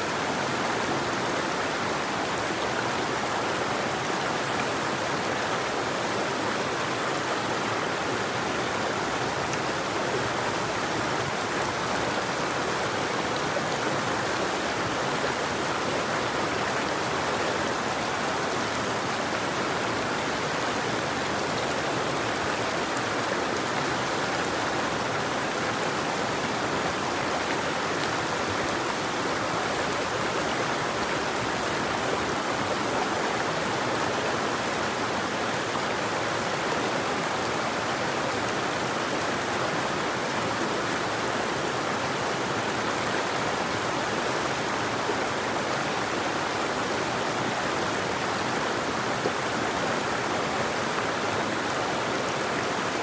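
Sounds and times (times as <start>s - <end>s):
river water flowing over rocks: 0.0s - 53.0s.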